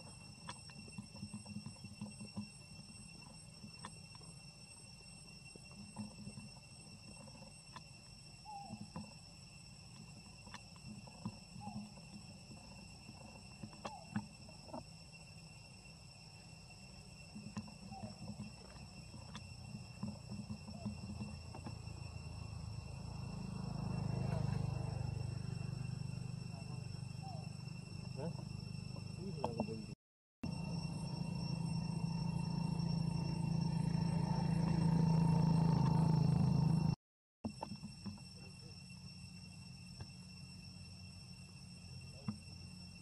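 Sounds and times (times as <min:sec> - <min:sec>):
whining insect drone: 0:00.0 - 0:43.0.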